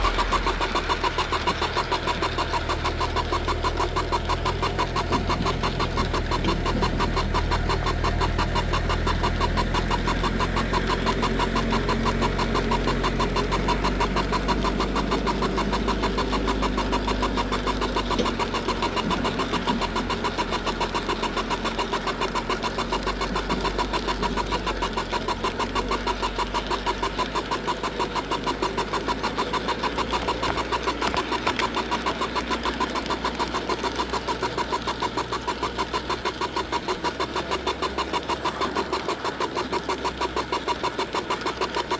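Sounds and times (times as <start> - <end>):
motor hum: 0.0 - 41.9
wheels rattling on track: 0.0 - 41.9.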